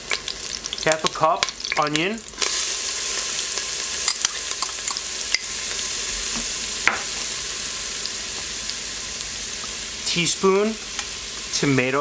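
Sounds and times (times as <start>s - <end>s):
onion sizzling in oil: 0.0s - 12.0s.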